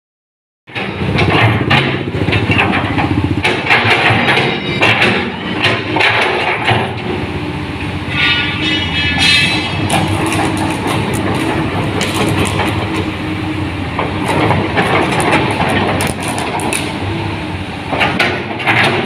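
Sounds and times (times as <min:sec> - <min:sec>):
knocks and clanks: 0:00.7 - 0:07.3, 0:08.1 - 0:13.1, 0:13.9 - 0:17.0, 0:17.9 - 0:19.0
excavator diesel engine running: 0:00.7 - 0:19.0.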